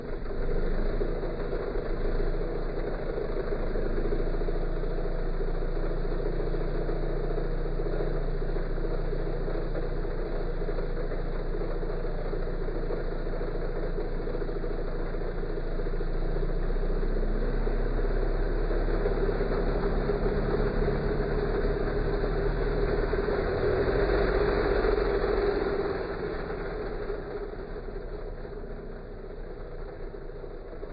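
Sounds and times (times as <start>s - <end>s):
small engine revving: 0.0s - 30.9s.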